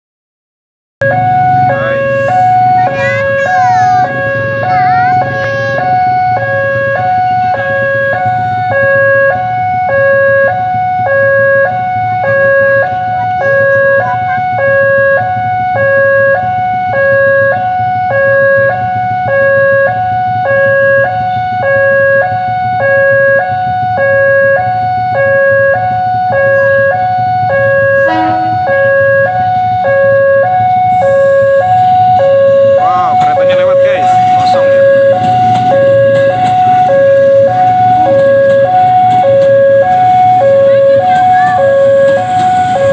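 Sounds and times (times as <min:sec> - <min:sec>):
level crossing two-tone alarm: 0:01.0 - 0:42.9.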